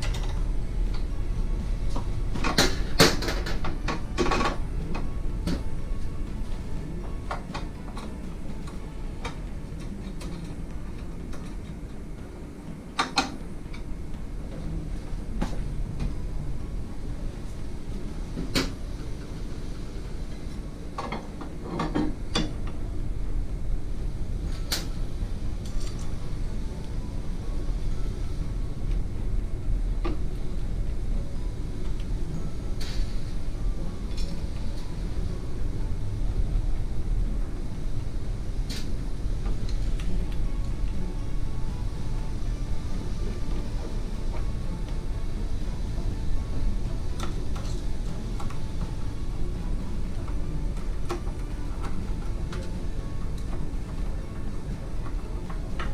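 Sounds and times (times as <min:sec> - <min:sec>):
low background rumble: 0:00.0 - 0:55.9.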